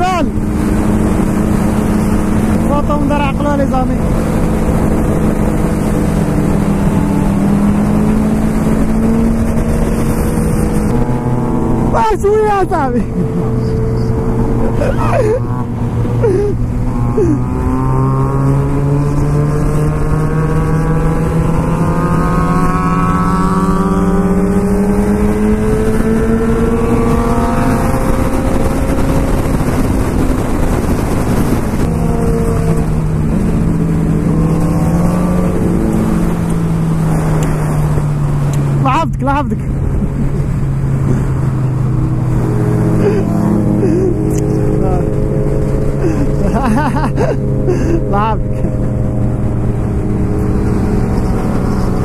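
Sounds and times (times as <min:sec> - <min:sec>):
motorcycle engine at speed: 0:00.0 - 0:52.0
wind rushing over microphone: 0:00.0 - 0:52.0.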